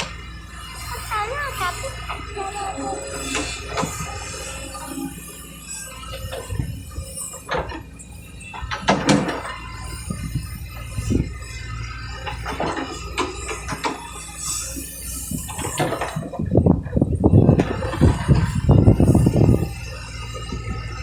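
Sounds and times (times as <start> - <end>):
excavator diesel engine humming: 0.0 - 21.0.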